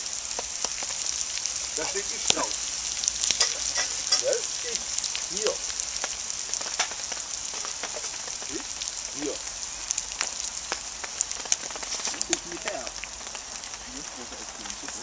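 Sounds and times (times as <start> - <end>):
meat and vegetables sizzling in a pan: 0.0 - 15.0.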